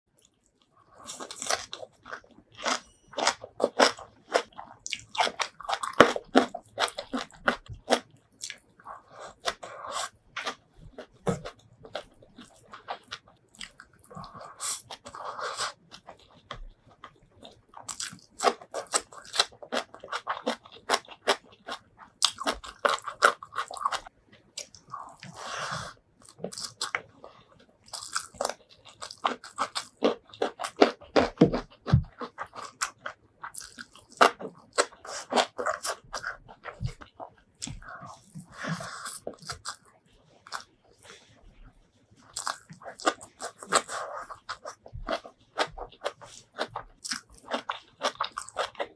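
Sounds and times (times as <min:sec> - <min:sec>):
wet chewing: 0:00.2 - 0:41.6, 0:42.2 - 0:48.9
crunching bites of vegetables: 0:00.9 - 0:40.8, 0:42.3 - 0:48.9.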